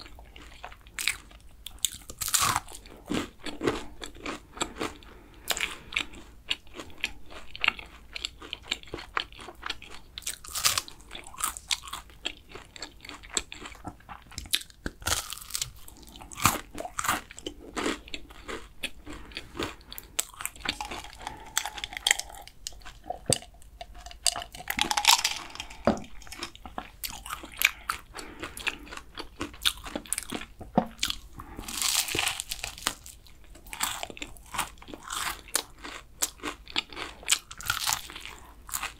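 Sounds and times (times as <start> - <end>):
chewing and crunching pastry: 0.0 - 38.9.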